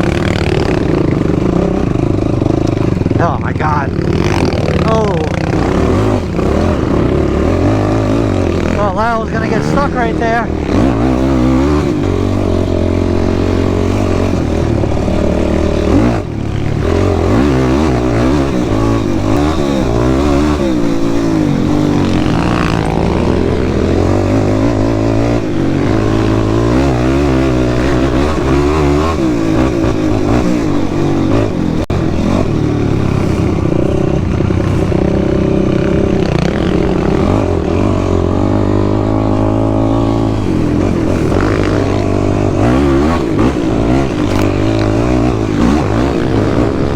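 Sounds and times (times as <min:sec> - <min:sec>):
quad bike engine revving: 0:00.0 - 0:46.9.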